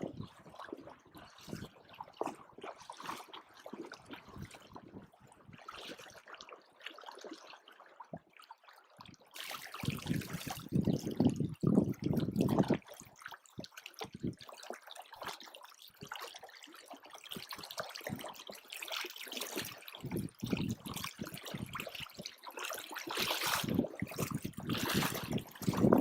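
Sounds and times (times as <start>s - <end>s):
water splashing and trickling: 0.0s - 26.0s.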